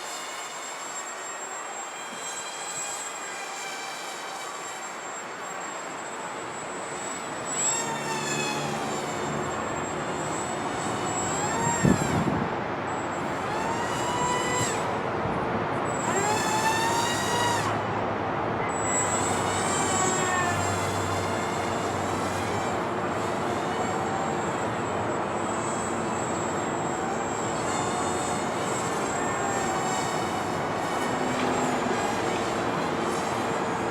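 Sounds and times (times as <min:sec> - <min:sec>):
high-pitched motor whine: 0:00.0 - 0:33.9.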